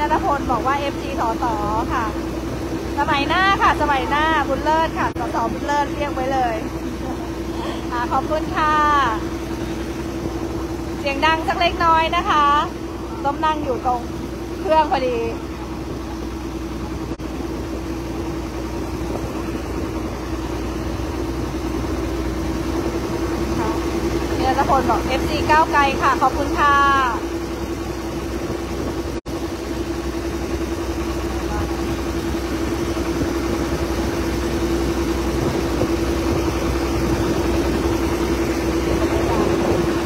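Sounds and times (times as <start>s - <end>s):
boat engine droning: 0.0s - 40.0s
rushing water: 0.0s - 40.0s
wind: 0.0s - 40.0s.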